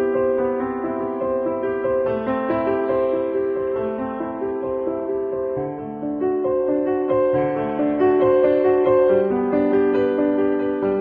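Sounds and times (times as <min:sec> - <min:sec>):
piano background music: 0:00.0 - 0:11.0.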